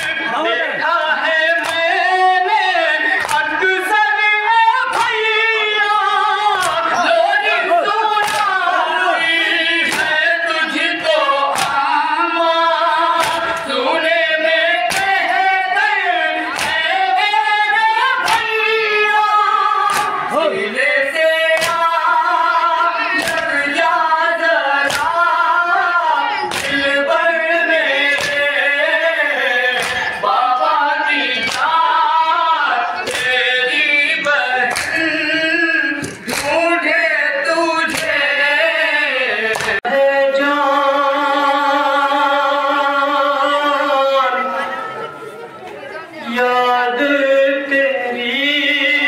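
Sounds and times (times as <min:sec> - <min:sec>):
sharp rhythmic beats: 0:00.0 - 0:42.3
group singing a lament: 0:00.0 - 0:49.0.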